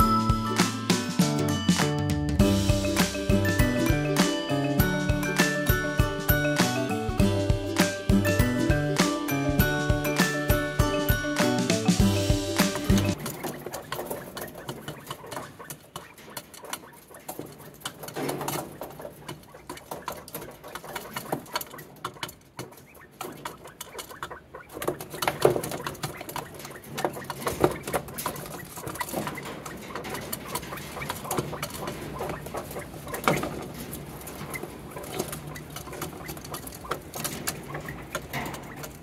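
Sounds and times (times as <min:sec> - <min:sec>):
beaks pecking on plastic feeder: 0:02.4 - 0:39.0.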